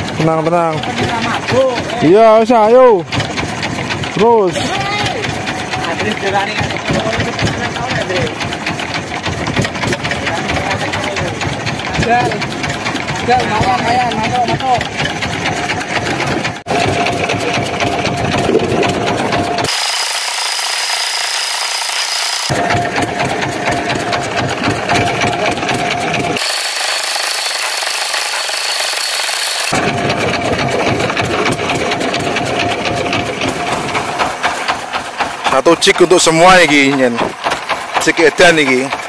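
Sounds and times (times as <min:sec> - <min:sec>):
boat engine rattling: 0:00.0 - 0:39.0.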